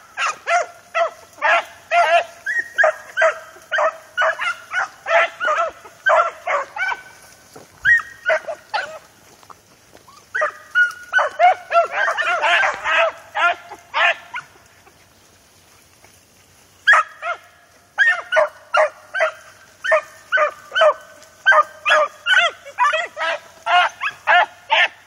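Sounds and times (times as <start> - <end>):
dogs yelping and barking: 0.0 - 9.2, 9.9 - 15.1, 16.9 - 25.0.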